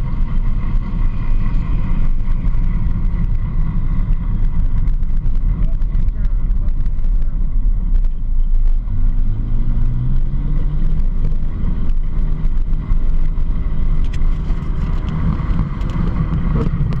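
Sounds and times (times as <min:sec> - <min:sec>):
atv engine accelerating: 0:00.0 - 0:17.0
tyres on gravel road: 0:00.0 - 0:17.0.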